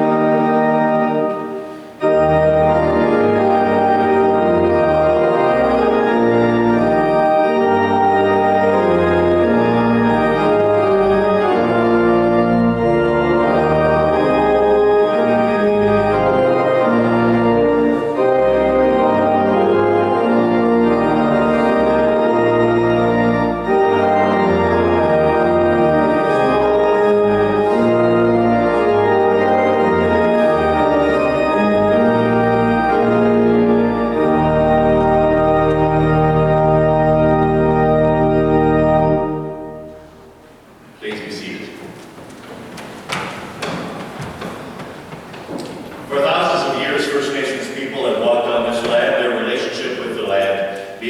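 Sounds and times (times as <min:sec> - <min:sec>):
church organ chords: 0:00.0 - 0:51.0.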